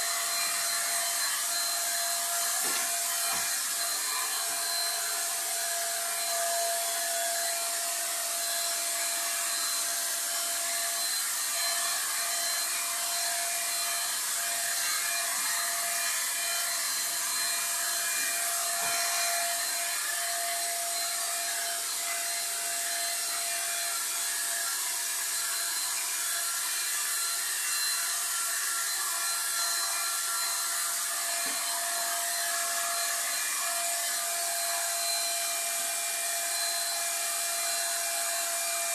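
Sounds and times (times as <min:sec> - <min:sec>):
electric paint sprayer whining: 0:00.0 - 0:38.9.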